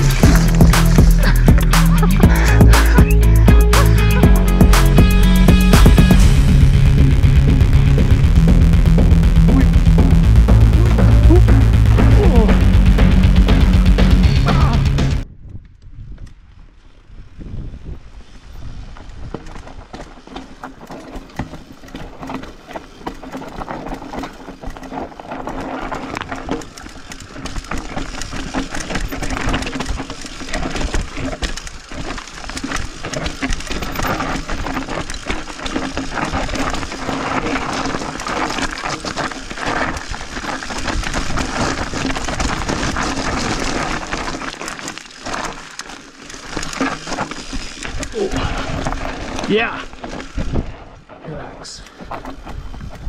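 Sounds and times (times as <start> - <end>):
bike tyres crunching on gravel: 0.0 - 15.2, 15.9 - 53.0
bike rattling and knocking: 0.0 - 16.4, 18.8 - 53.0.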